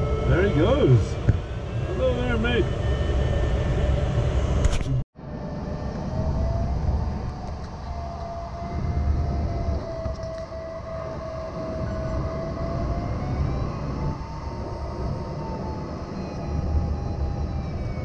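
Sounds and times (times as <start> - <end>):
electronic variometer tone: 0.0 - 18.0
wind noise rumbling in cockpit: 0.0 - 18.0.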